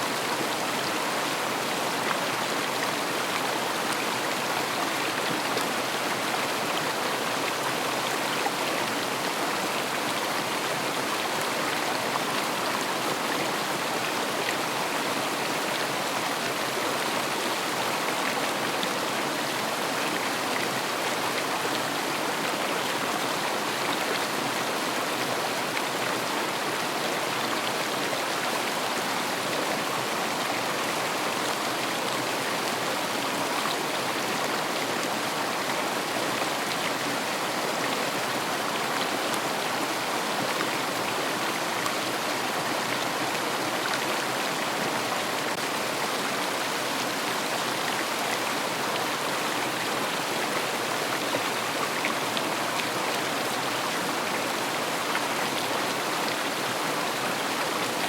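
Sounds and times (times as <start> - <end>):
river water running and splashing: 0.0 - 58.0.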